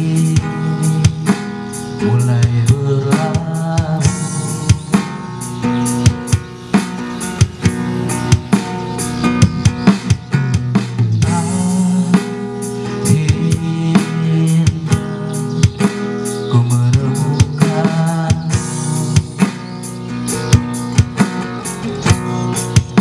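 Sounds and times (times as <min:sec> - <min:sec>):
drum kit beat with rimshots: 0:00.0 - 0:23.0
strummed acoustic guitar: 0:00.0 - 0:23.0.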